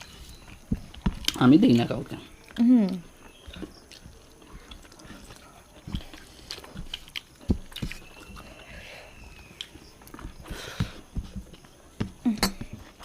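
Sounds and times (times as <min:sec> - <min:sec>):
person chewing: 0:00.0 - 0:01.4, 0:02.4 - 0:13.0.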